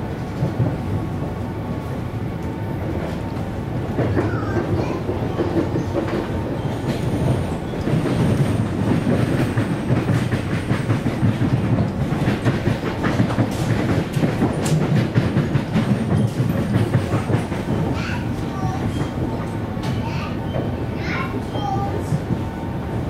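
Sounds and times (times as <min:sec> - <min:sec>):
train wheels rumbling on track: 0:00.0 - 0:23.0
wheels clacking over rail joints: 0:03.9 - 0:22.4.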